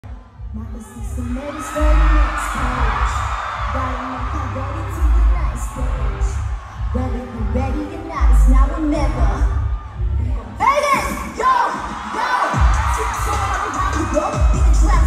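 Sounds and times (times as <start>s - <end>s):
hip-hop beat with heavy bass: 0.0s - 15.0s
person rapping: 0.4s - 15.0s.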